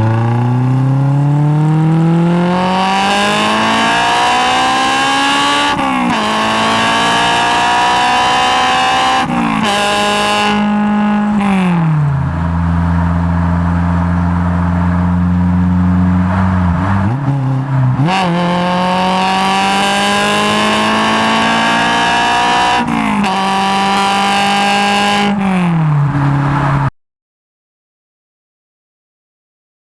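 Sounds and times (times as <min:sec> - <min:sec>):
car engine accelerating through gears: 0:00.0 - 0:26.9.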